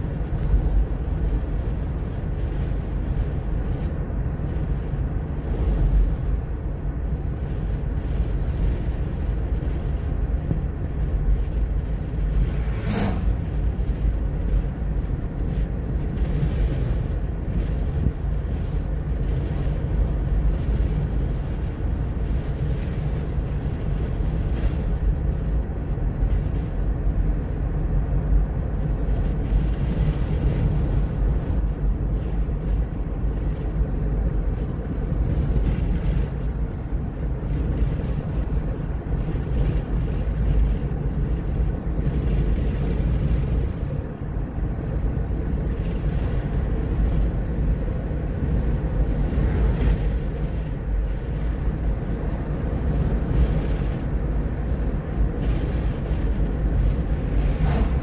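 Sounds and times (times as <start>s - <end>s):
car engine: 0.0s - 58.0s
wind noise: 0.0s - 58.0s.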